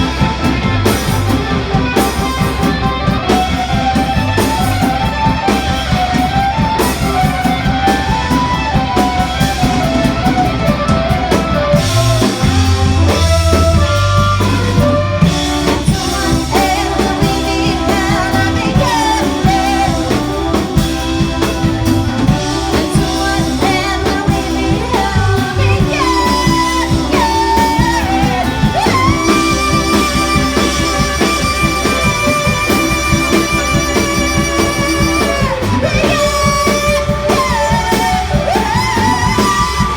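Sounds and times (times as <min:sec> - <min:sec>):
drum kit: 0:00.0 - 0:39.9
guitar: 0:00.0 - 0:39.9.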